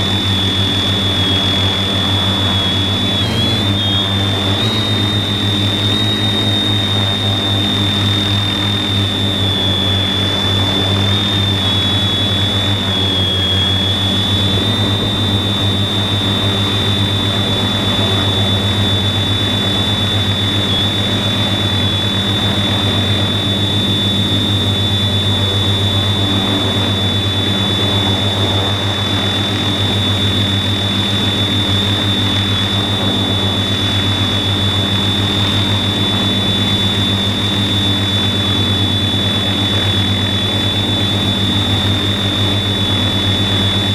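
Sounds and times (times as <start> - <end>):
drone motors and propellers humming: 0.0 - 43.9.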